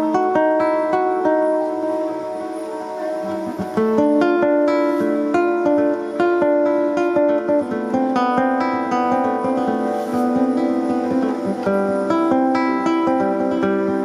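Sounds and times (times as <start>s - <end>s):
acoustic guitar picking and strumming: 0.0s - 14.0s.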